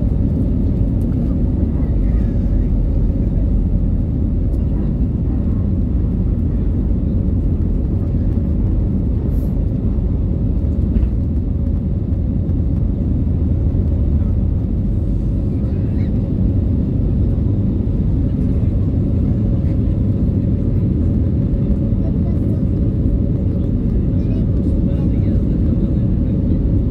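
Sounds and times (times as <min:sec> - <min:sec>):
jet engine rumble in cabin: 0:00.0 - 0:26.9.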